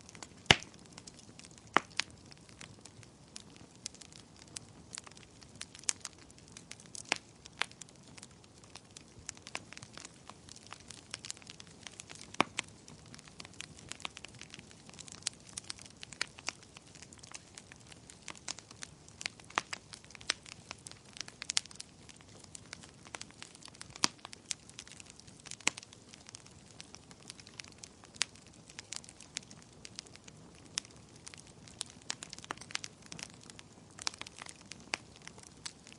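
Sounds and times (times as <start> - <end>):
low steady hiss: 0.0 - 35.9
wood fire crackling and popping: 0.0 - 35.9.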